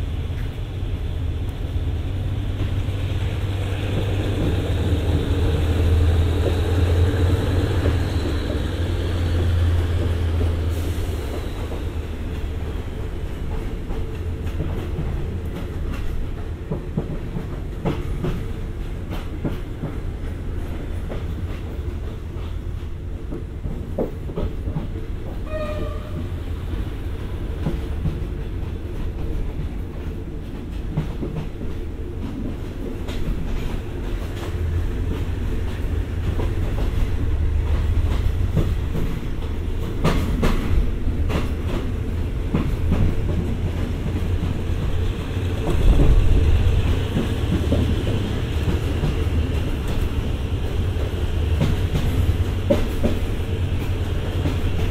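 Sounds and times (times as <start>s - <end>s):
clickety-clack over rail joints: 0.0s - 54.9s
train wheels rumbling on rail: 0.0s - 54.9s
sharp train clanks: 1.4s - 54.9s.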